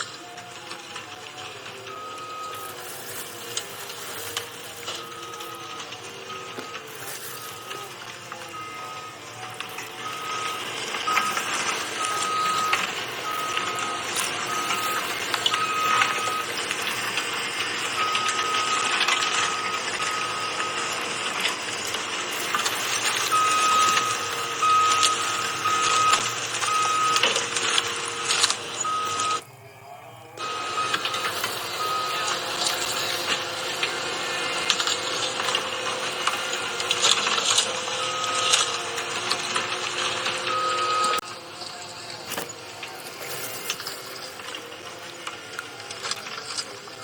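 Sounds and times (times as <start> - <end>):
diesel engine running: 0.0 - 29.4, 30.4 - 47.0
machinery clanks: 0.0 - 29.4, 30.4 - 47.0
backup alarm beeping: 0.5 - 29.4, 30.4 - 41.3.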